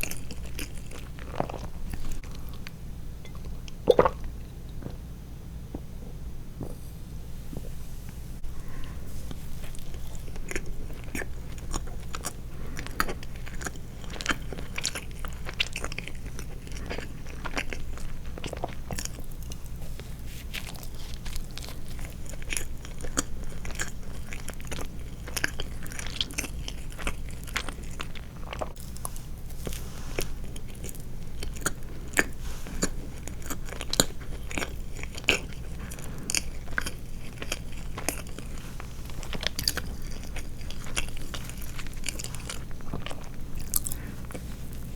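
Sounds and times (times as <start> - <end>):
chewing soft sweets: 0.0 - 5.1, 8.4 - 44.9
faint low hum: 0.0 - 44.9.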